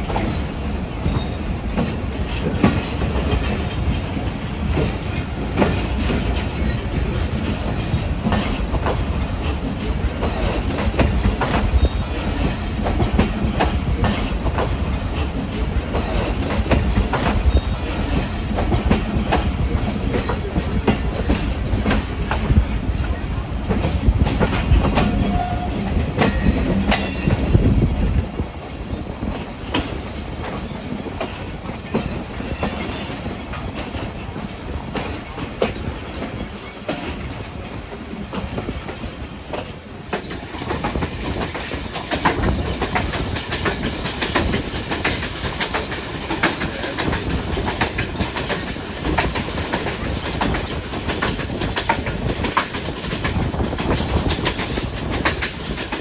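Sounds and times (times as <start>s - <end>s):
low train rumble: 0.0s - 56.0s
train wheels clattering on rails: 0.0s - 56.0s.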